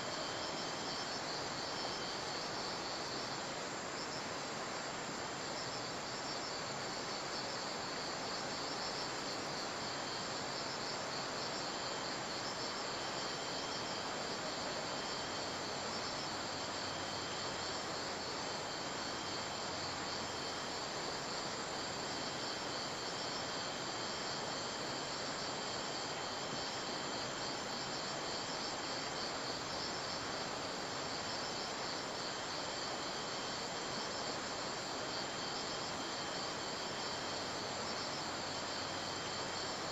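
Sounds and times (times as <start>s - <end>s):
insects chirping: 0.0s - 39.9s
steady hiss: 0.0s - 39.9s.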